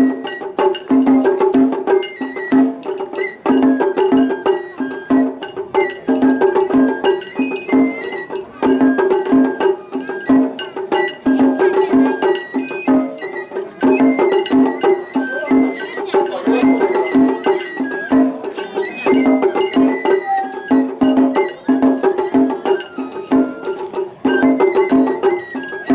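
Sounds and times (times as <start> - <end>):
bamboo flute melody: 0.0 - 25.9
quick steady drumming: 0.0 - 25.9.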